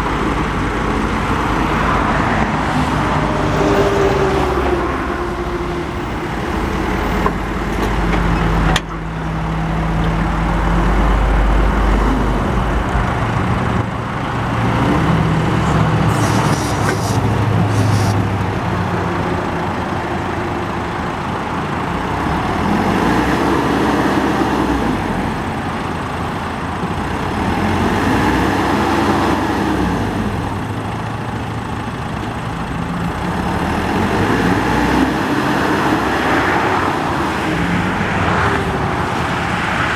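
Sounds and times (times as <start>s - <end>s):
diesel engine revving under load: 0.0s - 39.9s.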